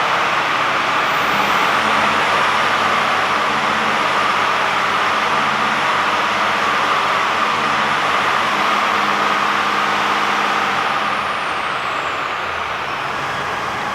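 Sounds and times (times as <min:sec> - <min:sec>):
truck diesel engine idling: 0:00.0 - 0:13.9.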